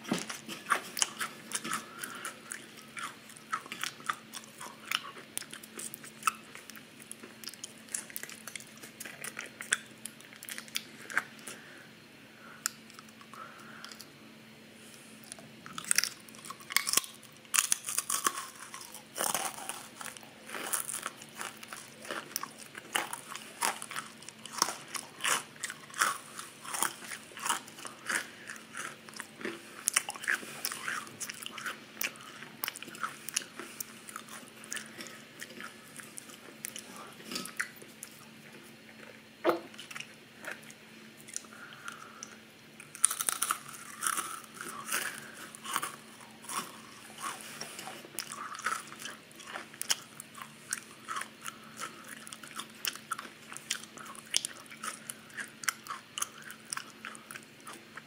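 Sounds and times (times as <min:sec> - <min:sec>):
crunching and chewing crackers: 0:00.0 - 0:11.8, 0:12.4 - 0:14.2, 0:14.8 - 0:58.0.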